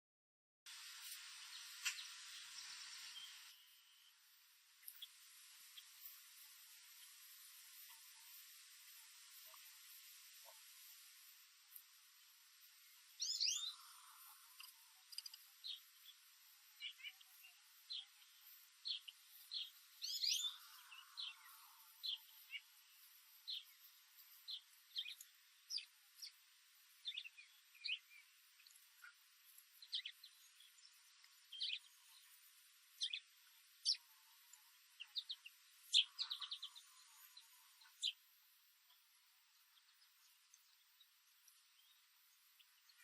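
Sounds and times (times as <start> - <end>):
songbirds chirping: 0.8 - 43.0.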